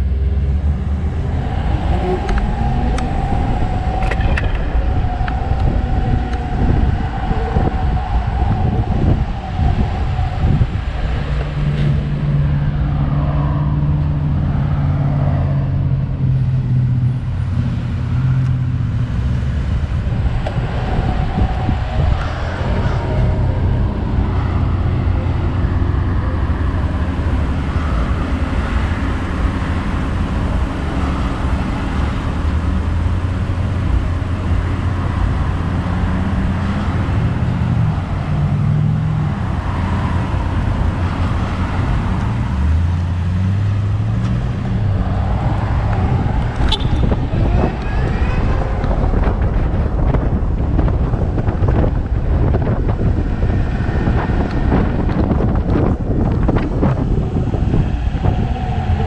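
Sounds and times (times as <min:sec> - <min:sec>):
vehicle engines idling: 0:00.0 - 0:59.0
wind noise: 0:00.0 - 0:59.0.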